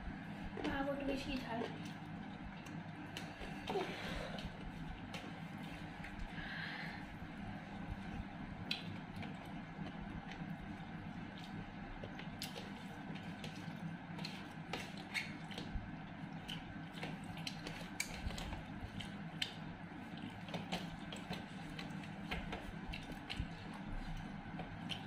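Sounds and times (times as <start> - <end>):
steady low hum: 0.0 - 25.0
soft chewing: 0.2 - 25.0.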